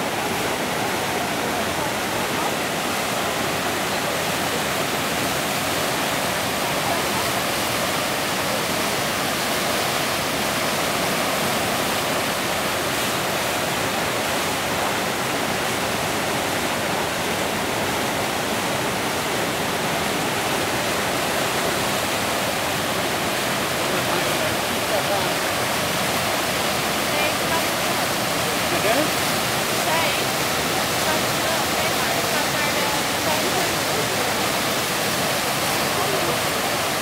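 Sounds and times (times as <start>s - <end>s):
rushing white water: 0.0s - 37.0s.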